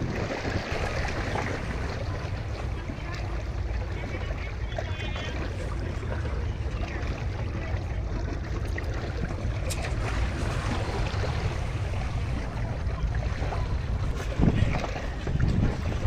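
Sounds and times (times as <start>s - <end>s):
sea water rushing: 0.0s - 16.0s
wind rumbling on microphone: 0.0s - 16.0s.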